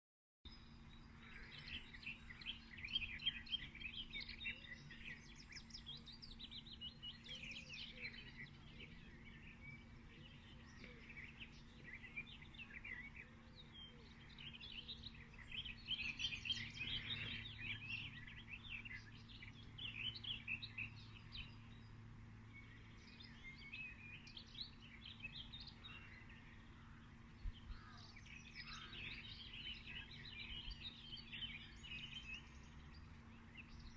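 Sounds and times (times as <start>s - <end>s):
faint low hum: 0.5s - 33.9s
small birds chirping: 0.5s - 33.9s.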